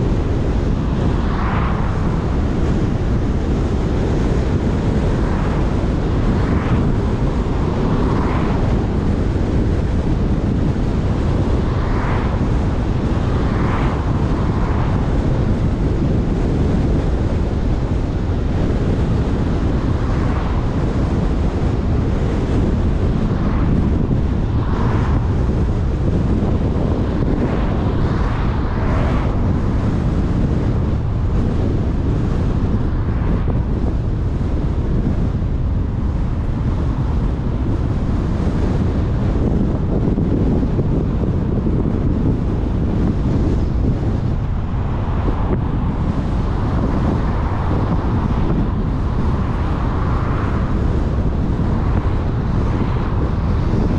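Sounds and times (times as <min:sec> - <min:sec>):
passing car whoosh: 0:00.0 - 0:53.9
road and tyre rumble: 0:00.0 - 0:53.9
wind buffeting microphone: 0:00.0 - 0:53.9.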